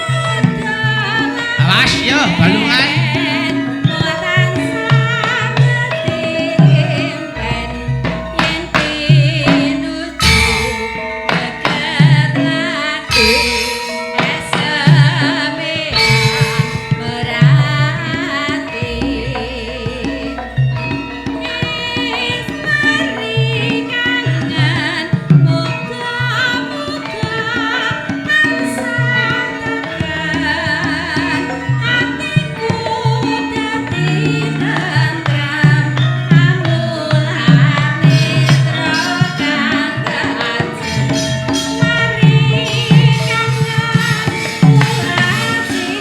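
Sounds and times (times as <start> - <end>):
gamelan melody: 0.0 - 46.0
hand drum strokes: 0.0 - 46.0.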